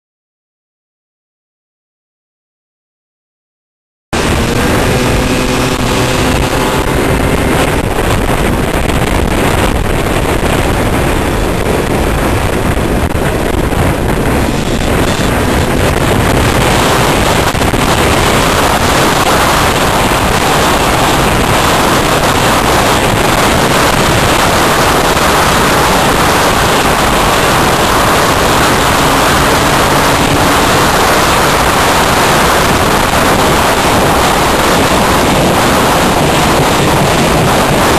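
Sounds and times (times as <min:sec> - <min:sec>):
motorcycle engine hum: 0:04.2 - 0:37.9
wind rush on microphone: 0:04.2 - 0:37.9.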